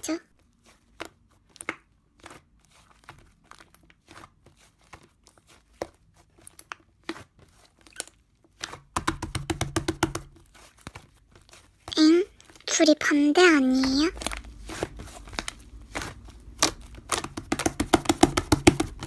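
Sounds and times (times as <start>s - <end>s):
slime squished with sticky crackles: 0.4s - 19.0s.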